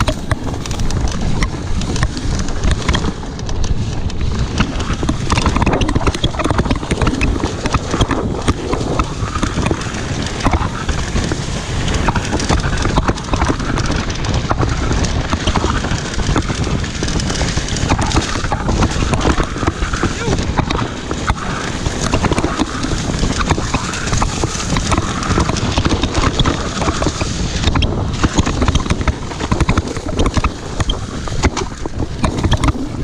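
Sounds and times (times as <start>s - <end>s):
bike rattling and clicking: 0.0s - 33.0s
bike tyres on rough dirt: 0.0s - 33.0s
wind rumbling on microphone: 0.0s - 33.0s.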